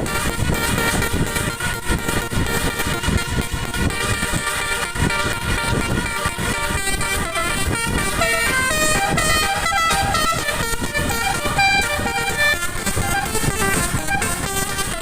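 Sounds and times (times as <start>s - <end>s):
multi-tone air horn melody: 0.0s - 15.0s.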